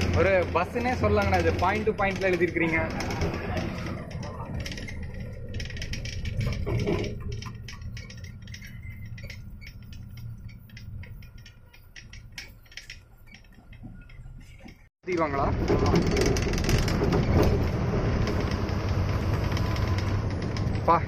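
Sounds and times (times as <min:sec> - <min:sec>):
cab rattles and clicks: 0:00.0 - 0:21.0
truck engine and road rumble: 0:00.0 - 0:21.0.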